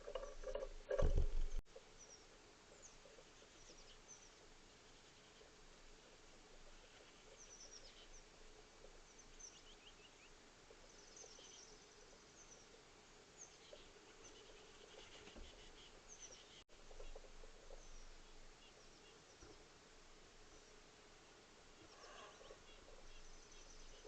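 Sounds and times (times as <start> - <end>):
distant small bird chirps: 0.0 - 19.7, 21.8 - 24.0
low steady hum: 0.0 - 24.0.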